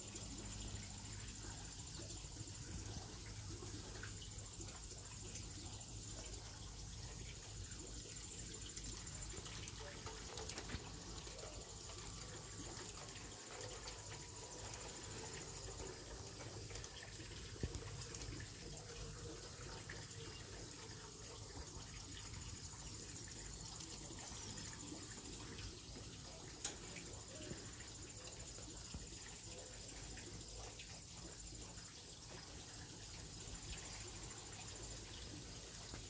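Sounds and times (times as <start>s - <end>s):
even hiss: 0.0s - 36.0s
high insect trill: 0.0s - 36.0s.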